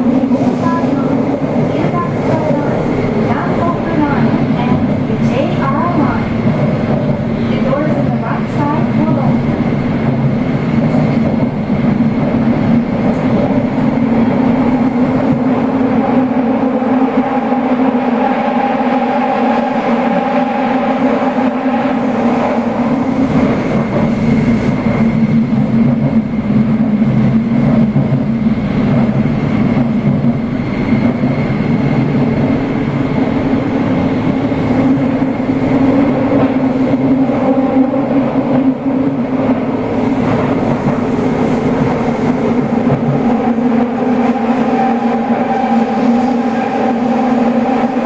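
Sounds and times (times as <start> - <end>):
subway train running through tunnel: 0.0 - 48.0.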